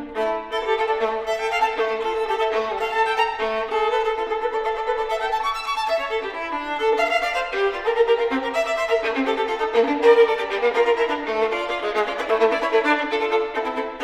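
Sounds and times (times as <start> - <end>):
solo violin playing: 0.0 - 14.0.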